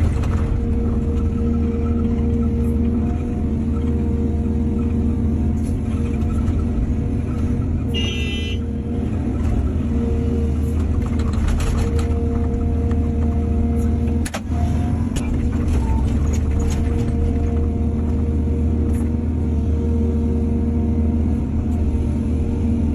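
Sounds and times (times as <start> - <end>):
excavator engine and hydraulics: 0.0 - 22.9.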